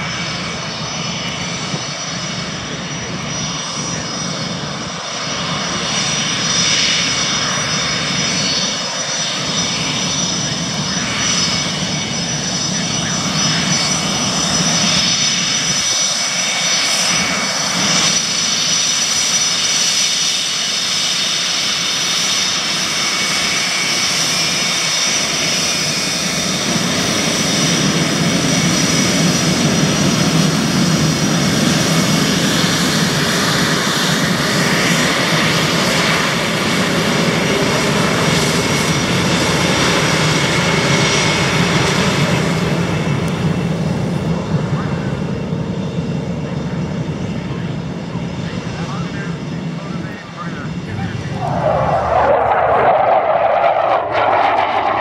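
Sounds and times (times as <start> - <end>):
jet rumble: 0.0 - 55.0
jet turbine whine: 0.0 - 55.0.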